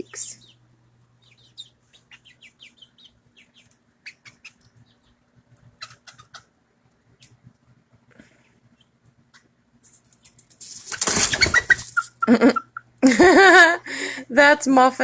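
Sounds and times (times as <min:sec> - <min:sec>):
chicks peeping: 0:00.0 - 0:10.4, 0:11.0 - 0:13.0
faint low hum: 0:00.0 - 0:15.0.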